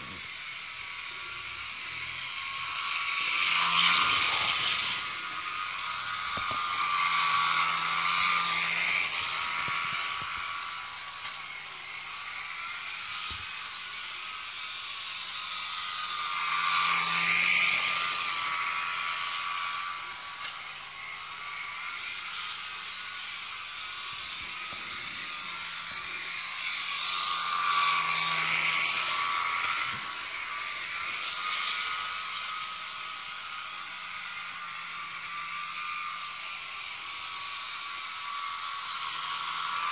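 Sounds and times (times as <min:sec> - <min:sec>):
model train motor whirring: 0:00.0 - 0:39.9.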